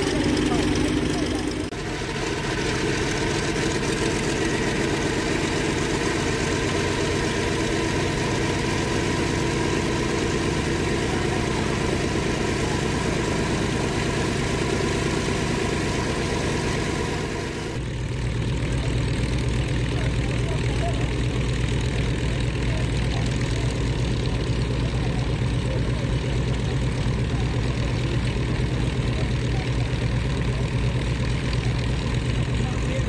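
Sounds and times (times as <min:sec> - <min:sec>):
deeper aircraft engine: 0:00.0 - 0:33.0
radial aircraft engine running: 0:00.0 - 0:33.0.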